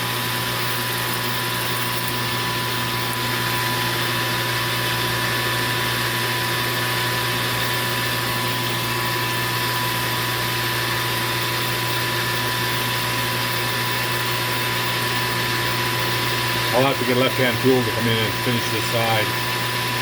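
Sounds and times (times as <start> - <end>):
metal lathe humming: 0.0 - 20.0.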